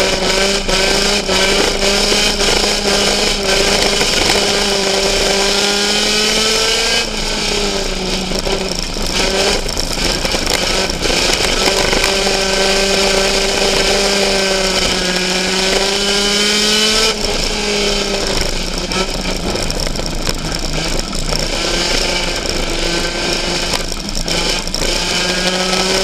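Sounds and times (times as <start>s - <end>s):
race car engine running: 0.0s - 26.0s.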